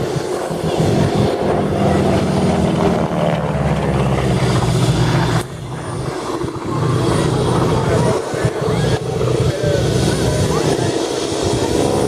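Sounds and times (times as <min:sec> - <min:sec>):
helicopter rotor and turbine running: 0:00.0 - 0:12.0
propeller plane droning past: 0:00.0 - 0:12.0.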